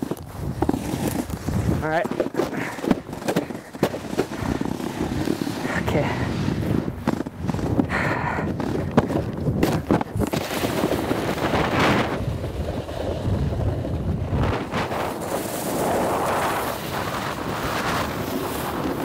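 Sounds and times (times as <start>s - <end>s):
snowboard scraping on snow: 0.0s - 19.0s
wind rushing over microphone: 0.0s - 19.0s.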